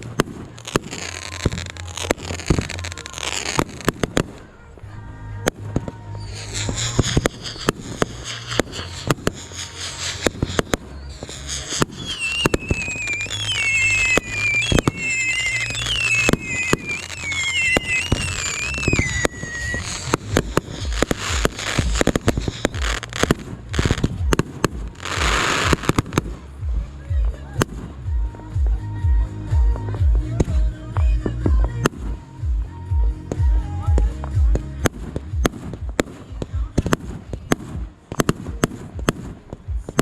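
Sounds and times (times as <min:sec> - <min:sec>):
fireworks bangs and crackles: 0:00.0 - 0:40.0
fireworks hiss: 0:00.0 - 0:40.0
whistling fireworks: 0:00.0 - 0:40.0.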